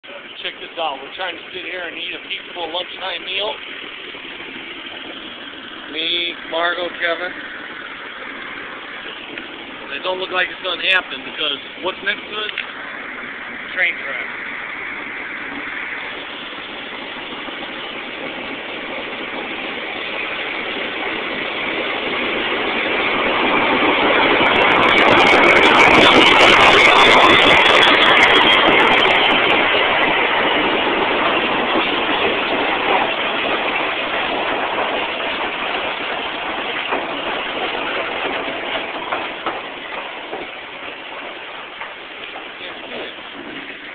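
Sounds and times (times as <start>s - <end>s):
diesel locomotive engine rumble: 0.0s - 43.9s
train carriages rolling by: 0.0s - 43.9s.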